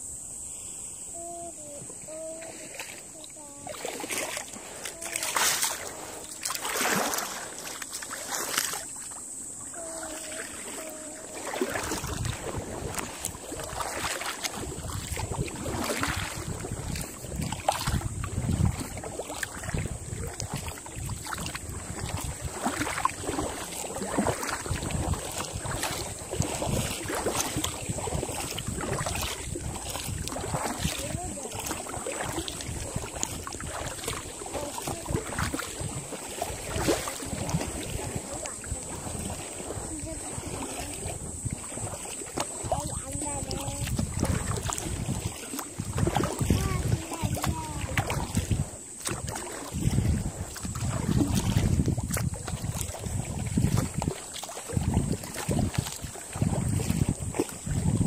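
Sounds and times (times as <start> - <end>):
paddle splashing in water: 0.4 - 58.0
wind rumble on microphone: 10.8 - 58.0.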